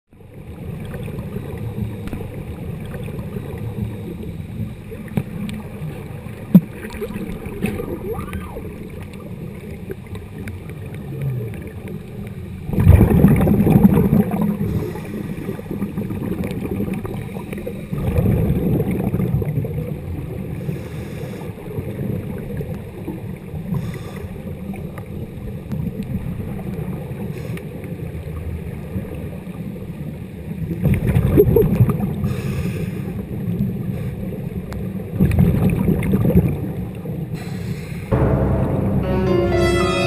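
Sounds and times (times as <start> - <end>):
underwater bubbling: 0.2 - 32.3, 33.1 - 37.3.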